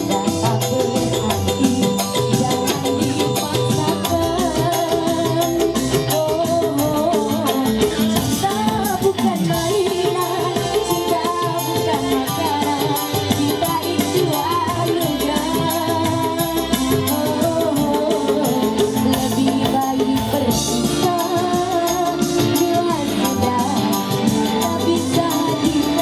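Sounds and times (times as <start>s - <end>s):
fast percussion beat: 0.0s - 26.0s
person singing: 0.0s - 26.0s.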